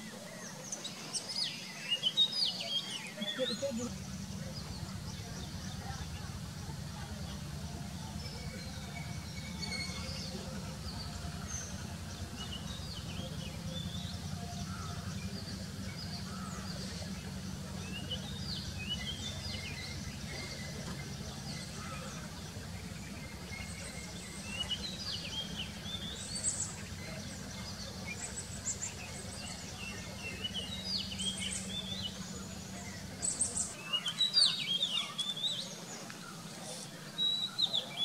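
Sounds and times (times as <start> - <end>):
steady low hum: 3.2 - 33.8.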